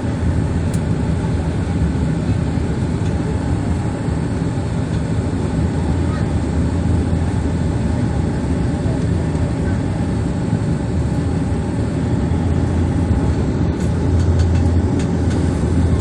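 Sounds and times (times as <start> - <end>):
propeller and engine drone: 0.0 - 16.0.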